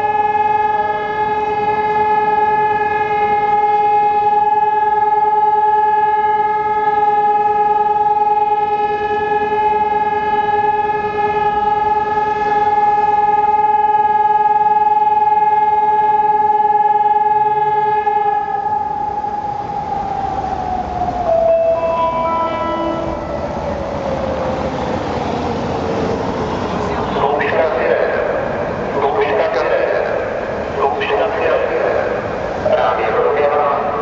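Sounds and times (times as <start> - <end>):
warning siren steady tone: 0.0 - 34.0.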